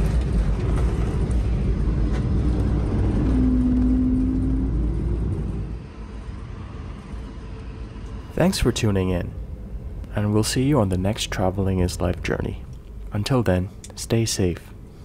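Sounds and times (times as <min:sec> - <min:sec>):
jet airliner rumble: 0:00.0 - 0:15.0
steady hum: 0:00.0 - 0:15.0.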